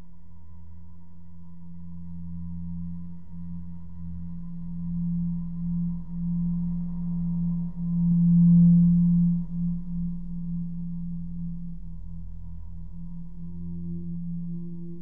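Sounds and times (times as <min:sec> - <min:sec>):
low humming drone: 0:00.0 - 0:15.0.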